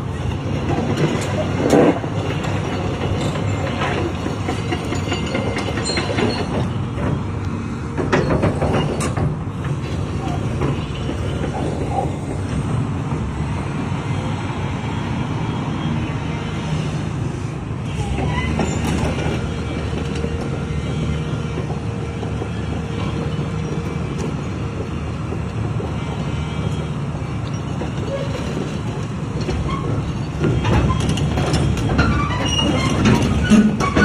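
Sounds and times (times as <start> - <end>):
heavy vehicle engine and road rumble: 0.0 - 34.0.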